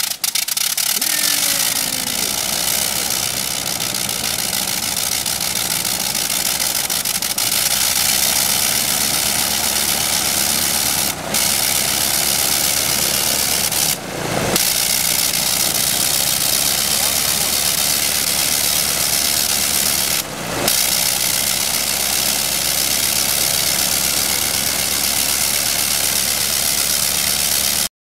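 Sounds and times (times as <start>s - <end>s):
rotary aircraft engine idling: 0.0s - 27.9s.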